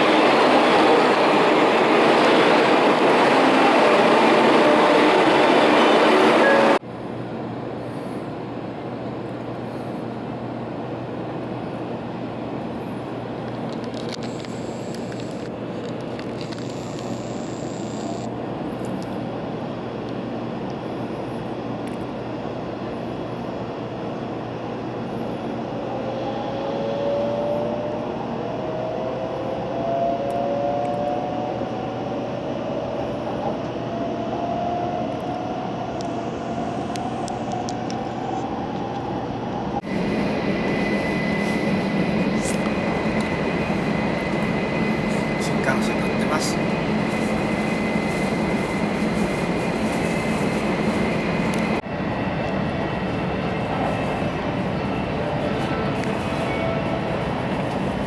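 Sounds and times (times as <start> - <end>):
train running noise inside car: 0.0 - 58.0.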